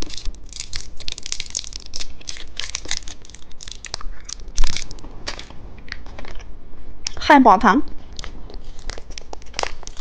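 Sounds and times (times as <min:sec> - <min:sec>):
plastic packaging crinkling: 0:00.0 - 0:06.5, 0:08.1 - 0:10.0.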